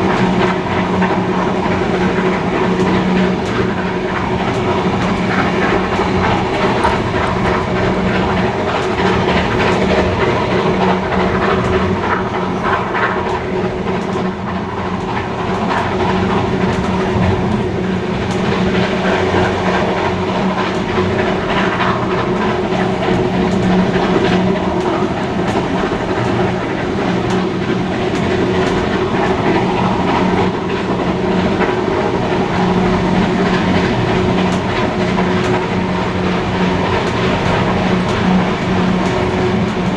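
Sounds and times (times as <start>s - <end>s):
steam train rumbling: 0.0s - 39.9s
wheels clattering over rails: 0.0s - 39.9s.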